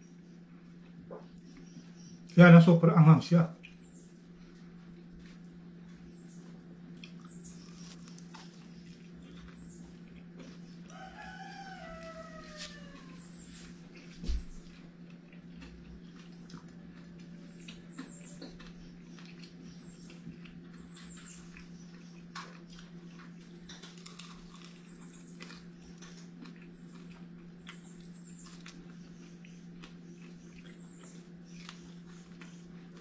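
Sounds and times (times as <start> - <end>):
man chewing and eating: 0.0 - 2.4, 3.5 - 33.0.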